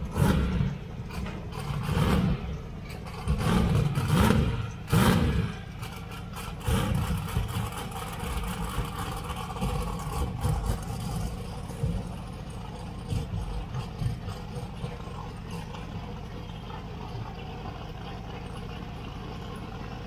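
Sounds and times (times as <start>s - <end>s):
engine pops: 0.0s - 20.0s
race car engines rumbling: 0.0s - 20.0s.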